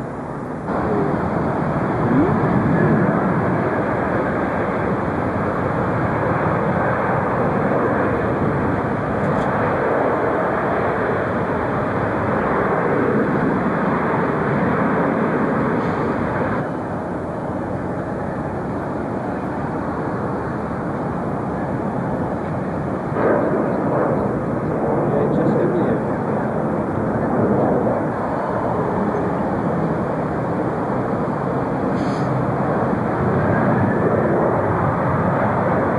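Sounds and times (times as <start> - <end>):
jet airliner engines running: 0.0 - 35.9.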